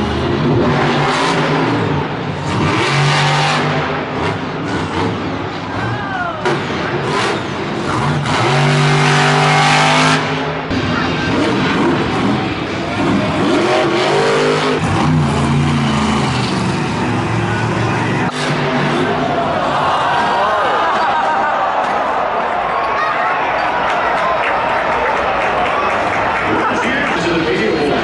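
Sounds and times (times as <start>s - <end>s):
truck engines revving loudly: 0.0s - 22.7s.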